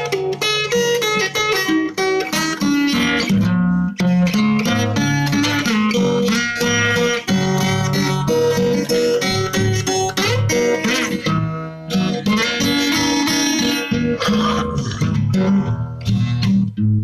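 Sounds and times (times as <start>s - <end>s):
plucked and strummed guitar: 0.0s - 17.0s.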